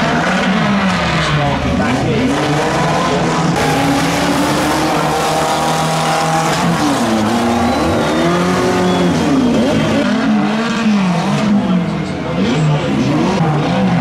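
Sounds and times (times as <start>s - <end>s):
racing car engines revving: 0.0s - 14.0s.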